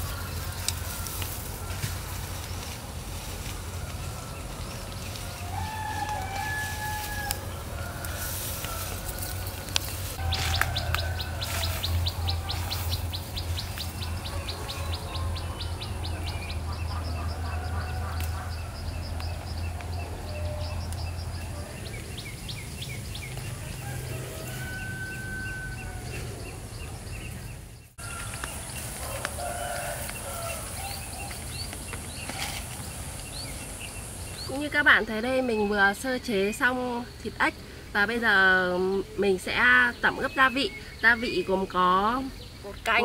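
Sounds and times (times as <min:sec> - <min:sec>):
birds calling: 0:00.0 - 0:43.0.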